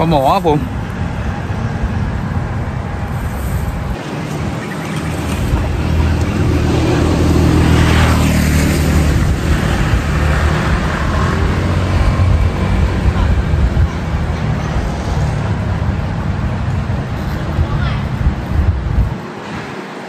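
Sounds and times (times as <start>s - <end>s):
steady traffic noise: 0.0s - 20.0s
vehicle passing close by: 0.2s - 20.0s.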